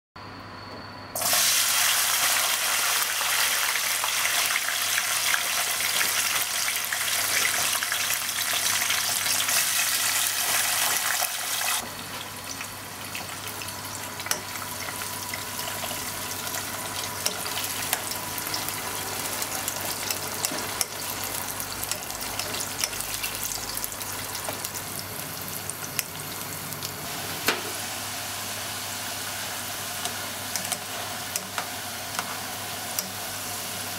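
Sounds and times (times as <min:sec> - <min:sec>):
potatoes sizzling in hot oil: 0:01.2 - 0:33.9.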